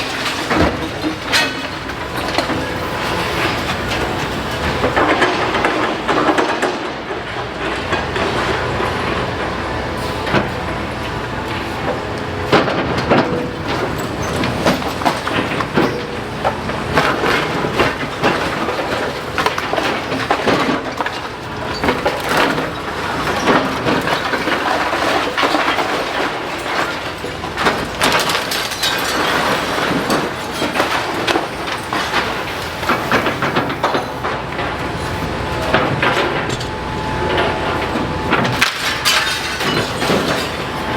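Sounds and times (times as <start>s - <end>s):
masonry breaking and clattering: 0.0s - 7.2s, 12.6s - 40.9s
excavator engine: 0.0s - 40.9s.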